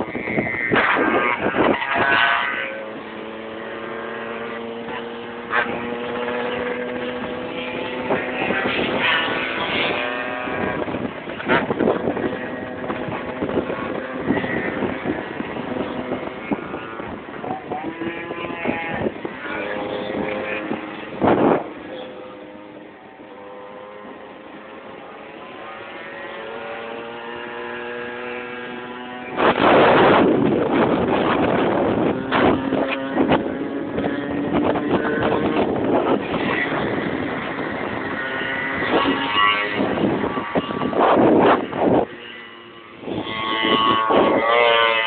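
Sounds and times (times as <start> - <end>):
motorcycle engines running: 0.0 - 45.0.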